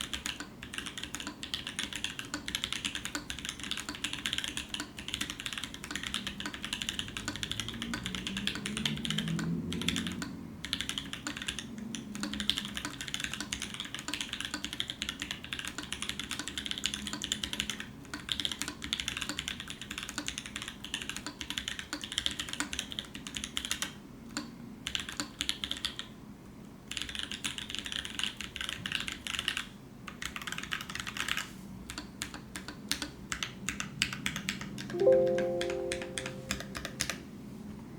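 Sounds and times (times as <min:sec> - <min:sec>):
fast typing on mechanical keyboard: 0:00.0 - 0:26.1, 0:26.9 - 0:35.0.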